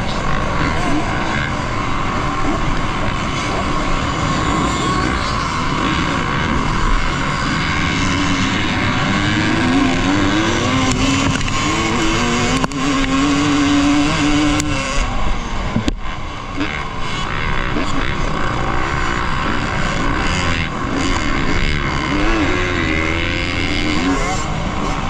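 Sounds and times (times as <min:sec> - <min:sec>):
motorcycle engines running: 0:00.0 - 0:25.0.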